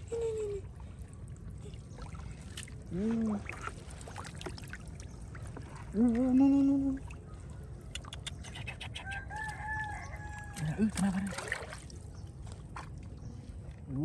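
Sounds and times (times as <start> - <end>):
water trickling: 0.0 - 14.0.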